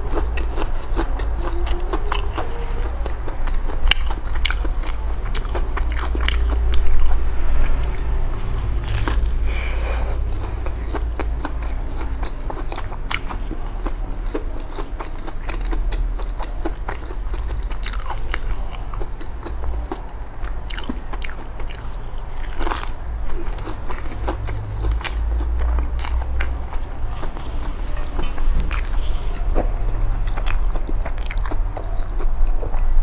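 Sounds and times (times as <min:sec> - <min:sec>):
crunchy chewing: 0:00.0 - 0:32.9
low steady hum: 0:00.0 - 0:33.0.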